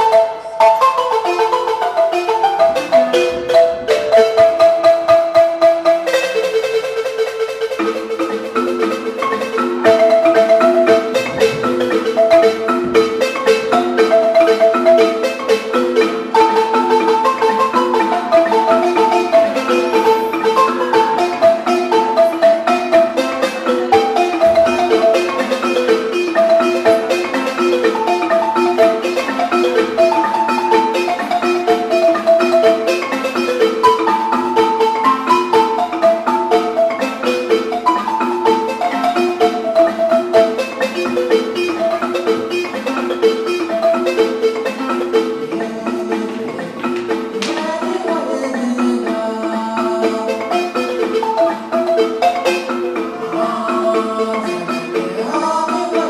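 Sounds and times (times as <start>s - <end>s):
balafons playing: 0.0s - 56.0s.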